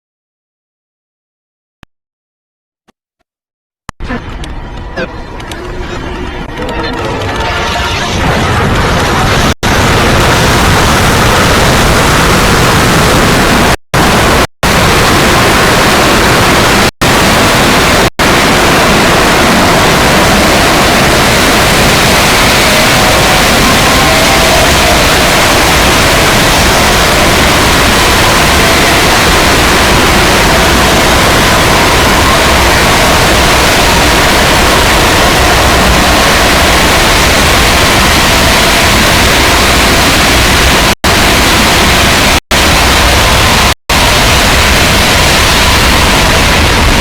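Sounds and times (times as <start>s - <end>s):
loud distorted static noise: 3.9s - 47.0s.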